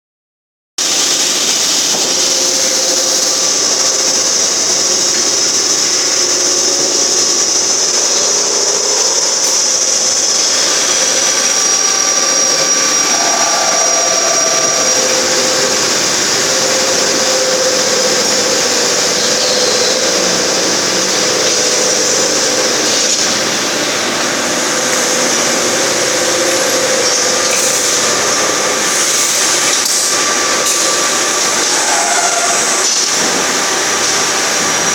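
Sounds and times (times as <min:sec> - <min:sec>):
machine tools hissing: 0:00.8 - 0:34.9
machine whining tones: 0:00.9 - 0:34.9.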